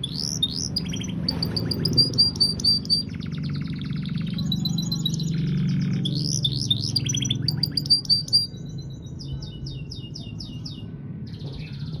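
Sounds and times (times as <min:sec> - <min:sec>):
canary singing trills: 0:00.0 - 0:12.0.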